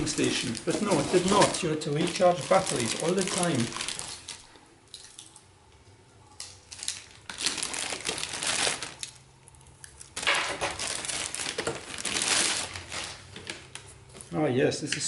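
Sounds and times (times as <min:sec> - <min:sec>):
plastic bag crinkling: 0:00.0 - 0:04.6, 0:06.4 - 0:14.2.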